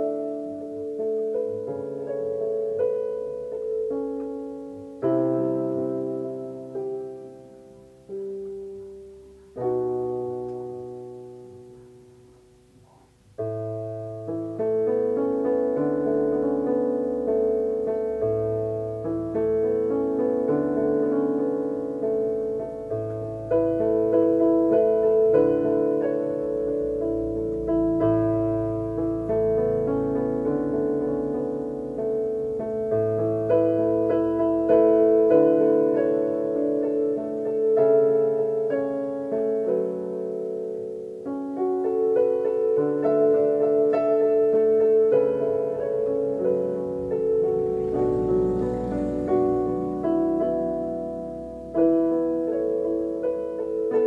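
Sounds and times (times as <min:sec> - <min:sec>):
electronic keyboard piano playing: 0:00.0 - 0:54.0.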